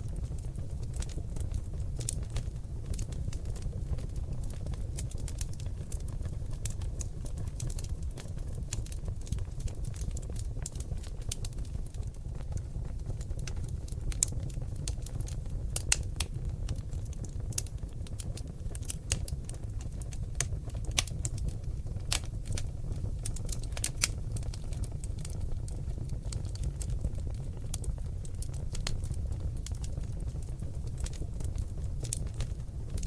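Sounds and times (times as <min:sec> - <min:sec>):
logs crackling and popping: 0:00.0 - 0:33.0
low flame noise: 0:00.0 - 0:33.0.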